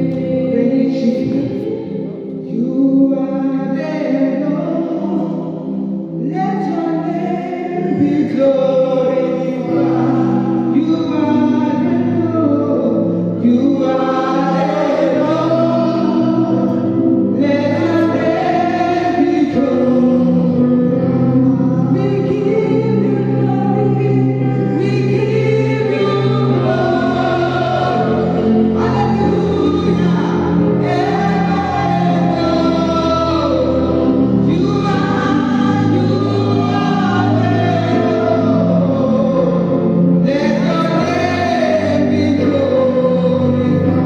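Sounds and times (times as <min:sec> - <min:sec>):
gospel choir singing: 0:00.0 - 0:44.0.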